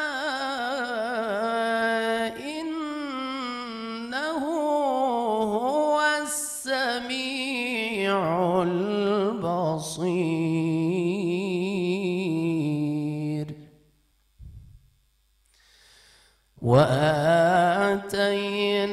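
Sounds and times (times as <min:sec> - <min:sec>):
man reciting melodically: 0:00.0 - 0:13.7, 0:16.6 - 0:18.9.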